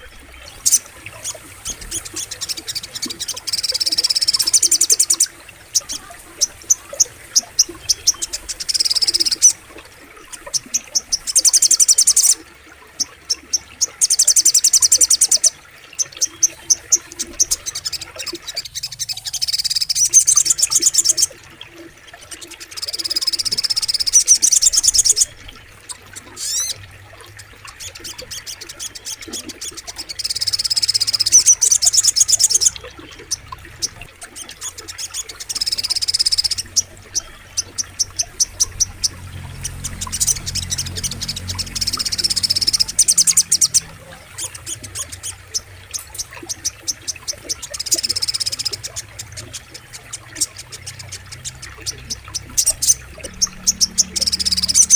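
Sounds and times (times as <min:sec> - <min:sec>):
songbird trilling: 0:00.0 - 0:09.6, 0:13.0 - 0:21.4, 0:22.7 - 0:26.8, 0:27.6 - 0:54.9
faint flowing water: 0:00.0 - 0:54.9.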